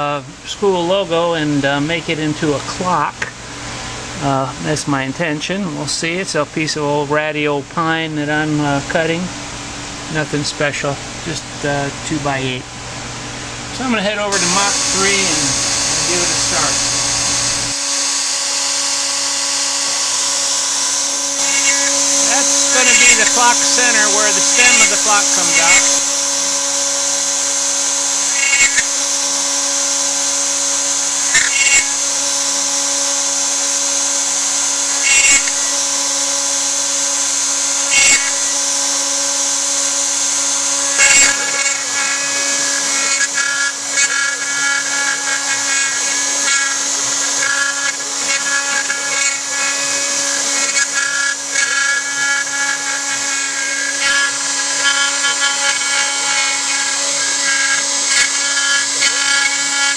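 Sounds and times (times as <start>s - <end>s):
router bit cutting wood: 8.2s - 59.9s
router spindle whining: 8.2s - 59.9s.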